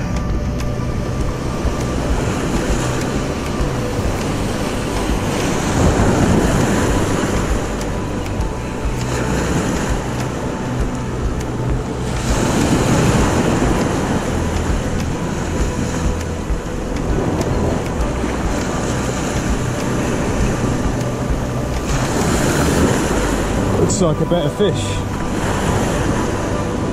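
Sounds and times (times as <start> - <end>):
surf washing in: 0.0 - 26.9
wind rumbling on microphone: 0.0 - 26.9.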